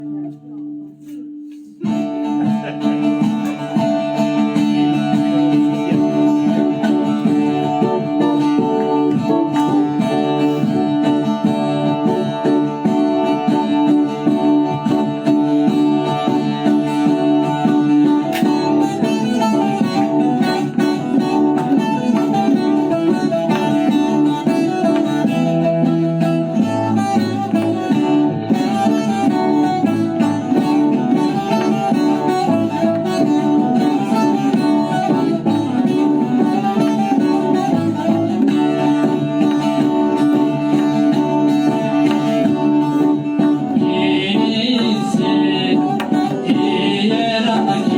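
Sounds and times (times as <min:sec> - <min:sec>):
plucked string instrumental music: 0:00.0 - 0:47.9.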